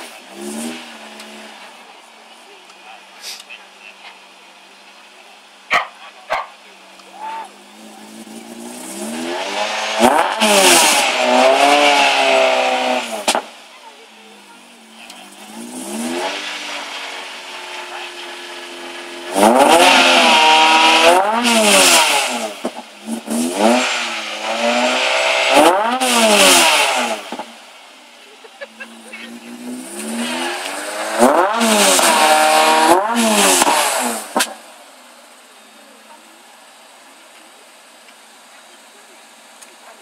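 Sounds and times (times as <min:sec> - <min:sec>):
race car engine idling and revving: 0:00.0 - 0:40.0.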